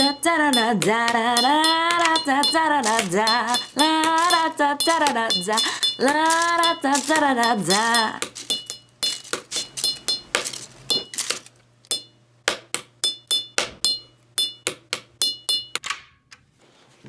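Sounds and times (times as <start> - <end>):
hard object tapping with ringing: 0.0 - 15.8.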